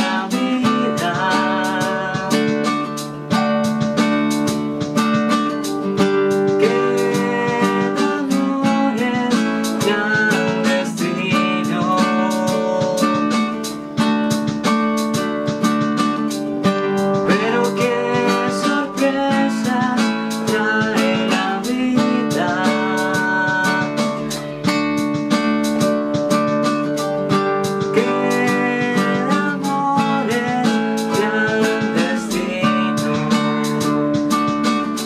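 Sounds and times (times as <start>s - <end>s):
acoustic guitar strumming: 0.0s - 35.0s
plucked guitar melody: 0.0s - 35.0s.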